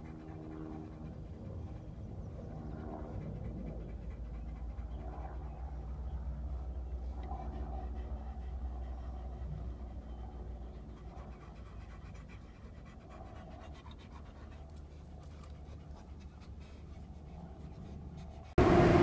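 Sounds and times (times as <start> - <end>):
distant airliner rumble: 0.0 - 19.0.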